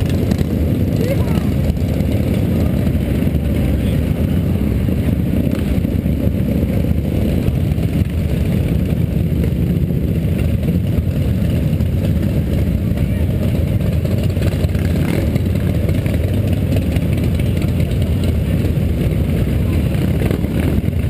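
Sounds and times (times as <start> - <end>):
motorcycles riding past: 0.0 - 21.0.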